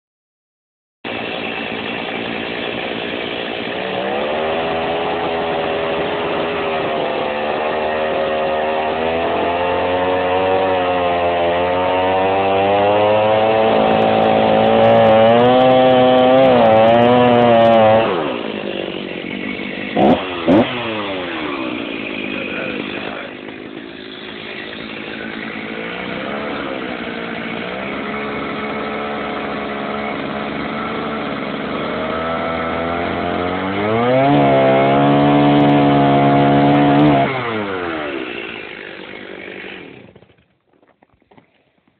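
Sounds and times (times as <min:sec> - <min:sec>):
chainsaw sawing through bone: 0:01.1 - 0:41.6.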